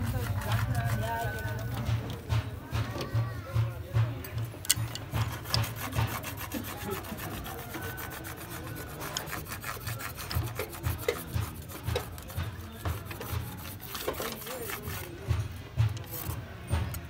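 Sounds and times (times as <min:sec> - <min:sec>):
rapid scraping strokes: 0:00.0 - 0:02.6, 0:04.6 - 0:17.0.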